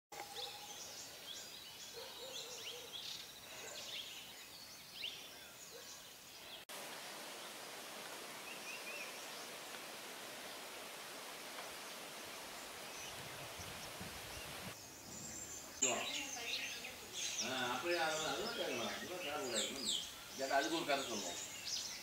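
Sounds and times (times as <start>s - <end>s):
small birds chirping and twittering: 0.2s - 22.0s
steady hiss: 4.2s - 22.0s.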